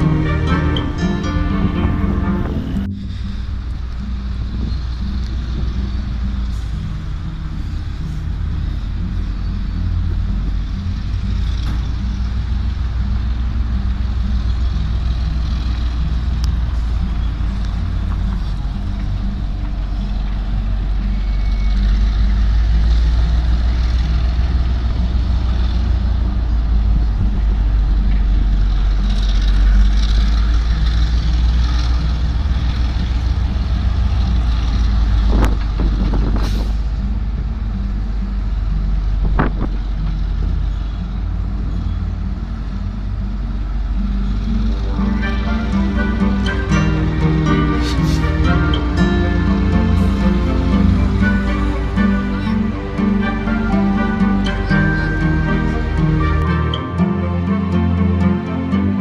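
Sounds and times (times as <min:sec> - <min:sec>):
locomotive engine rumble: 0:00.0 - 0:59.0.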